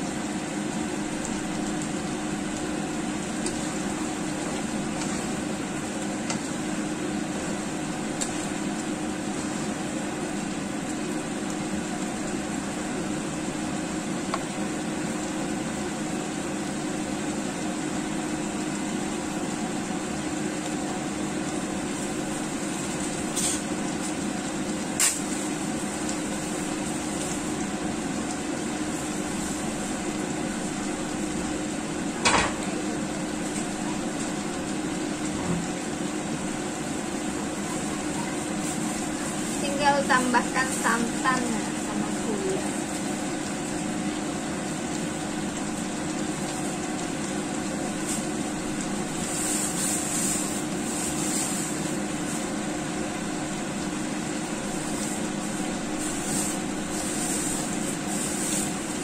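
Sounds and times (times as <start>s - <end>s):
curry simmering hiss: 0.0s - 59.0s.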